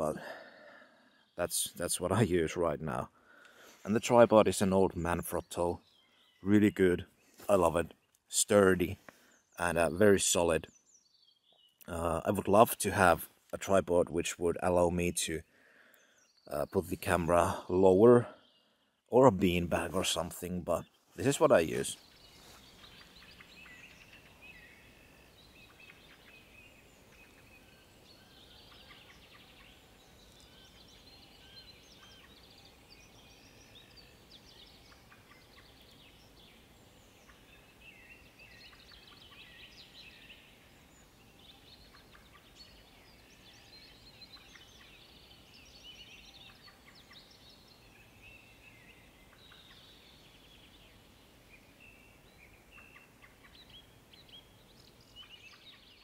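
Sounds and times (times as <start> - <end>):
small birds singing and chirping: 0.0 - 56.0.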